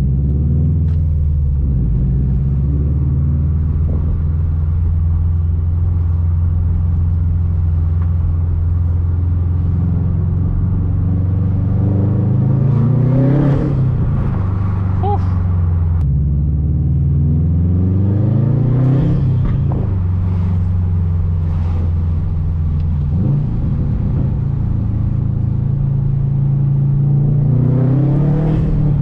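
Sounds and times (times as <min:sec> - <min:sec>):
car engine cruising and revving: 0:00.0 - 0:29.0.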